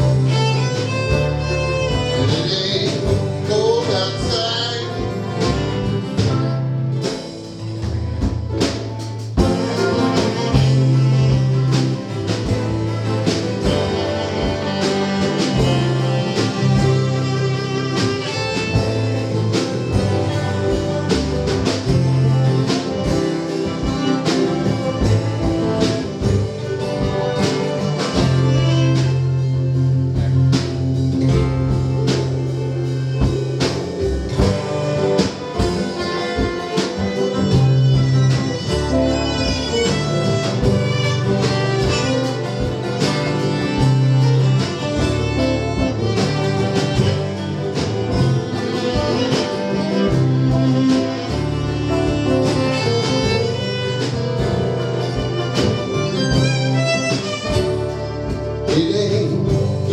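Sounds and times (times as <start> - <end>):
bass: 0.0 - 59.9
fiddle: 0.0 - 59.9
guitar: 0.0 - 59.9
steady drum beat: 0.0 - 59.9.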